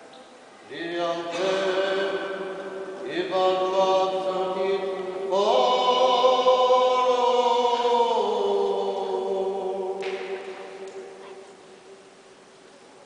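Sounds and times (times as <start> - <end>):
person chanting long notes: 0.7 - 12.0.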